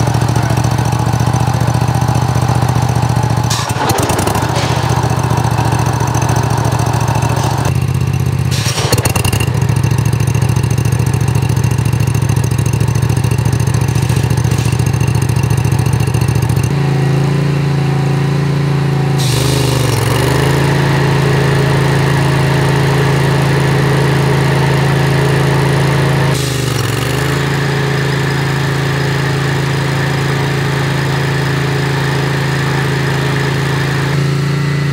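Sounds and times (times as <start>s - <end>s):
riding mower running: 0.0s - 34.9s.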